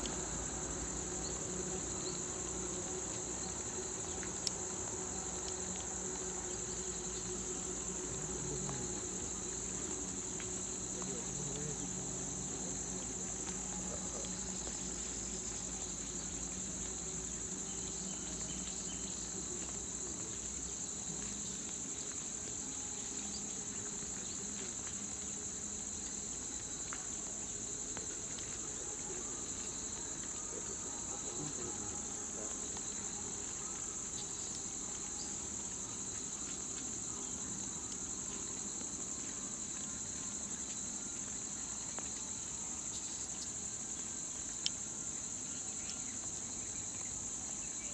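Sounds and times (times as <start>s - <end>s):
high-pitched insects droning: 0.0s - 47.9s
lower insect tone: 0.0s - 47.9s.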